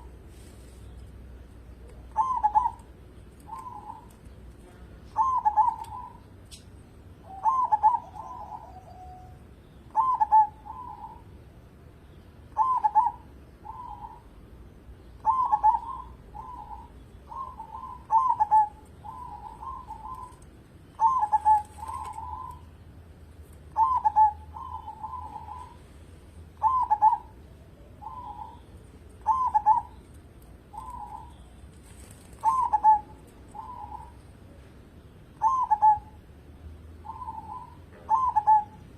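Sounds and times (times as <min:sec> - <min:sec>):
dove cooing: 0:01.7 - 0:06.3, 0:07.2 - 0:11.3, 0:12.5 - 0:14.4, 0:15.2 - 0:22.8, 0:23.7 - 0:34.2, 0:35.4 - 0:36.3, 0:37.0 - 0:38.9.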